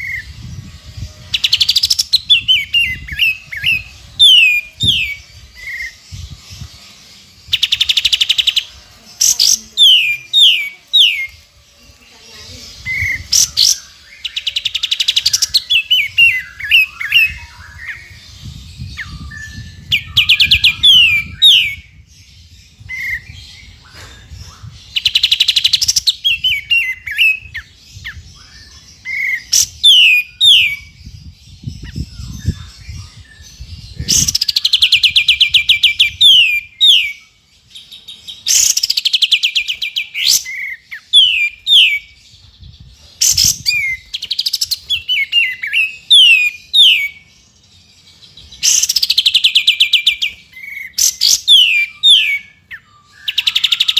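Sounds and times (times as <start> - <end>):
bulbul singing trills and whistles: 0.0 - 53.9.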